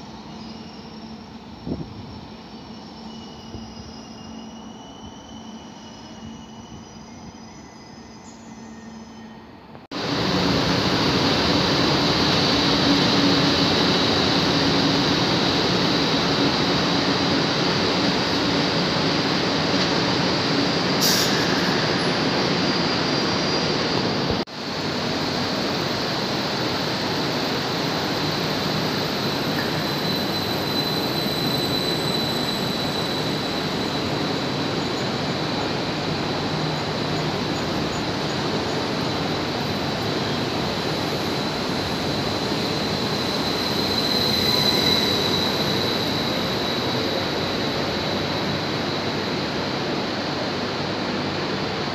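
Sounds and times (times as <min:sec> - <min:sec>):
high squeal: 0:00.0 - 0:09.7, 0:11.2 - 0:24.4, 0:27.4 - 0:49.7.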